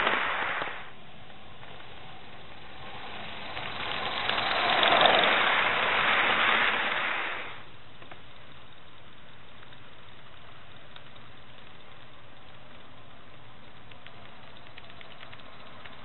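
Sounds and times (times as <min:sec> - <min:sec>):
train wheels on track: 0:00.0 - 0:16.0.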